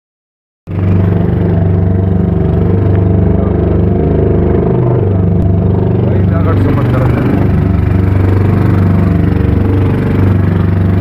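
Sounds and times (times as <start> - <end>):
boat engine droning: 0.7 - 11.0.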